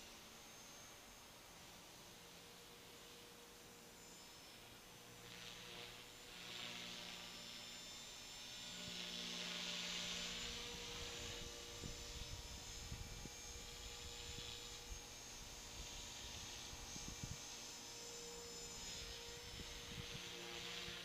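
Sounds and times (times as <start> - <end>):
rc helicopter motor and rotor whine: 0.0 - 21.0.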